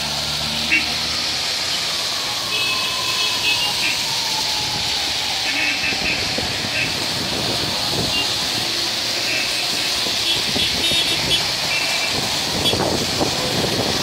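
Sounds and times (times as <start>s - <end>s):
cars passing through water: 0.0s - 14.0s
rain hissing: 0.0s - 14.0s.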